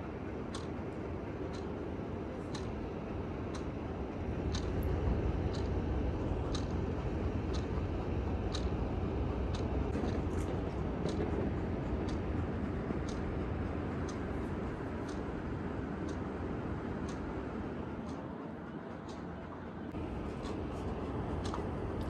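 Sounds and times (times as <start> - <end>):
steady low hum: 0.0 - 22.0
clock ticking: 0.4 - 22.0.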